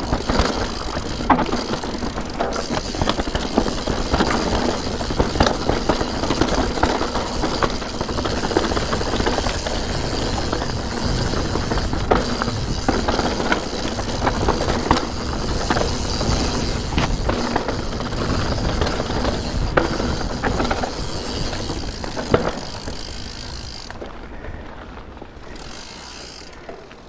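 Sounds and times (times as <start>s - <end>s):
wind noise on camera: 0.0s - 26.4s
bike rattling and knocking: 0.0s - 27.0s
tyres rumbling over dirt and stones: 0.0s - 27.0s.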